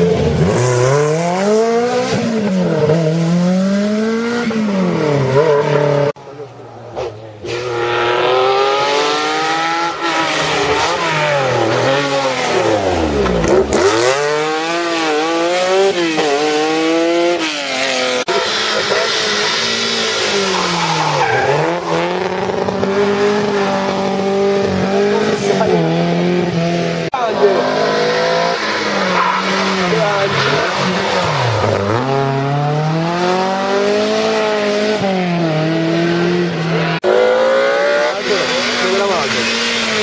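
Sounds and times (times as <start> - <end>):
rally car engine revving hard: 0.0 - 6.2, 7.0 - 40.0.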